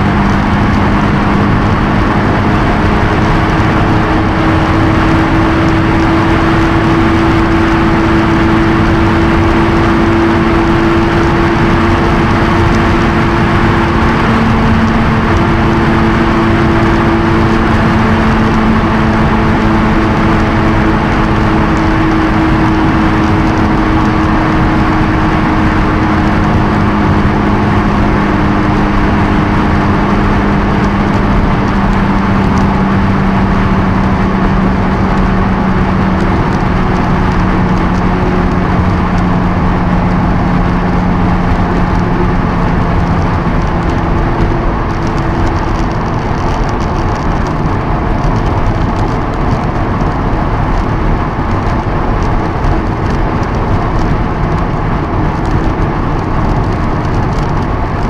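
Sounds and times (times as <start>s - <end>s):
car engine cruising: 0.0s - 58.0s
wind and road noise: 0.0s - 58.0s.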